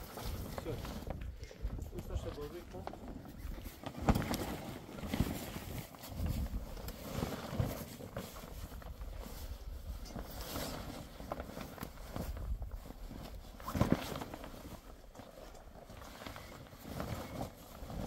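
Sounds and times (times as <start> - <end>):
canvas dragged over ground: 0.0 - 18.0
canvas rustling and flapping: 0.0 - 18.0.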